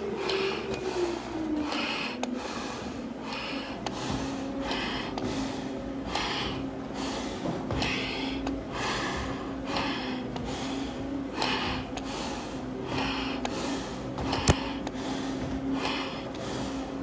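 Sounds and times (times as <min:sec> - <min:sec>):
breathing in face mask: 0:00.0 - 0:17.0
steady low hum: 0:00.0 - 0:17.0.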